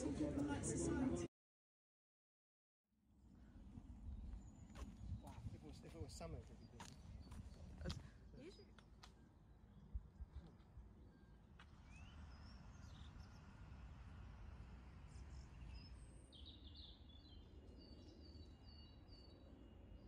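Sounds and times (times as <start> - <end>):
songbirds chirping: 3.3 - 20.0.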